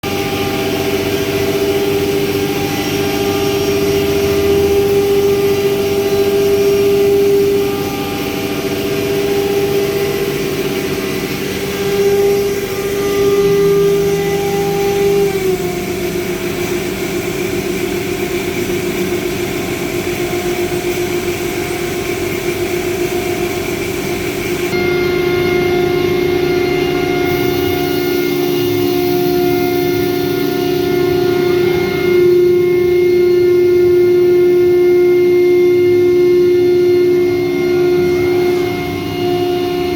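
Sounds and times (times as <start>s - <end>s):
router whining over rushing hiss: 0.1s - 39.9s.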